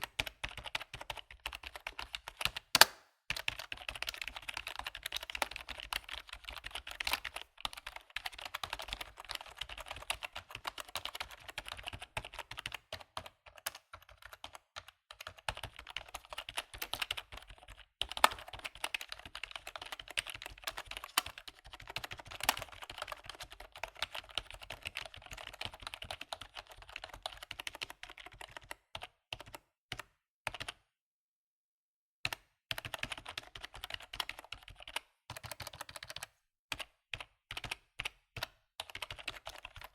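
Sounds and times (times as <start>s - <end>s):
rapid keyboard typing: 0.0s - 30.8s, 32.3s - 39.9s.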